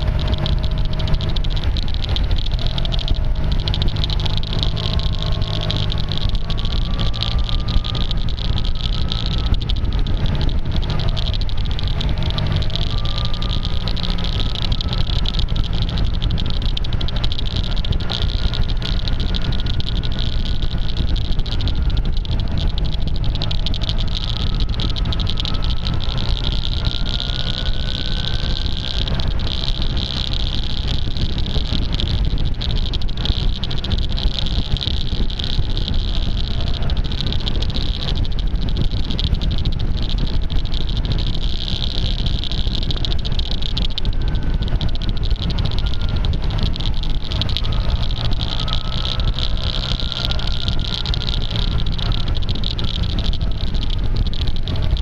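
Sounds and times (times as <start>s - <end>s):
crackle of clicks: 0.0s - 55.0s
scooter engine drone: 0.0s - 55.0s
wind rush: 0.0s - 55.0s.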